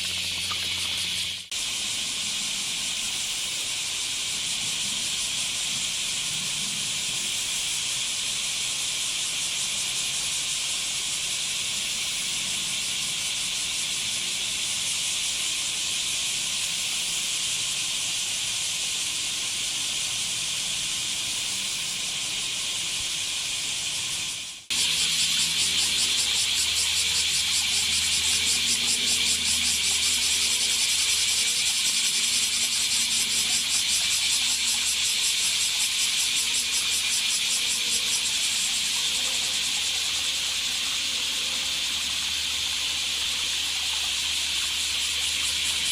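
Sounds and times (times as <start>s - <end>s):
cicadas buzzing: 0.0s - 45.9s.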